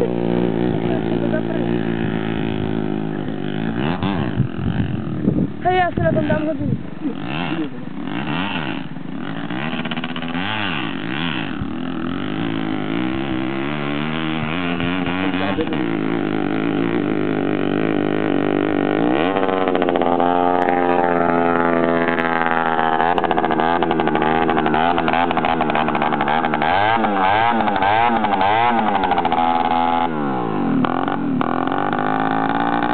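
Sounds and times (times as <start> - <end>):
unmuffled two-stroke moped engine revving: 0.0 - 32.9.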